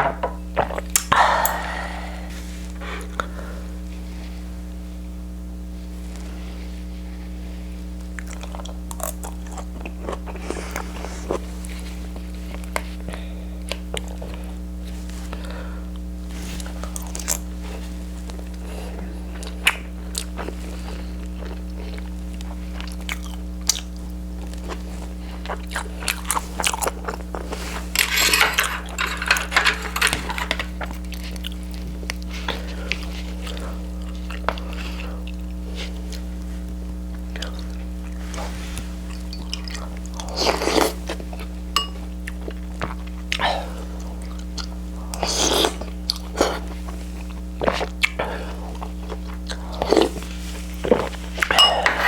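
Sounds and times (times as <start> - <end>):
low electrical hum: 0.0 - 52.0
person chewing and crunching: 0.4 - 1.8, 8.1 - 52.0.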